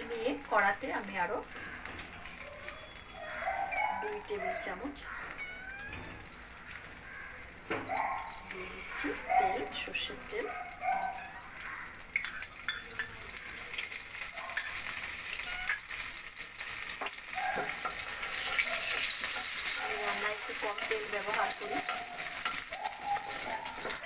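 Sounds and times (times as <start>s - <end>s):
oil sizzling in a wok: 0.0s - 24.0s.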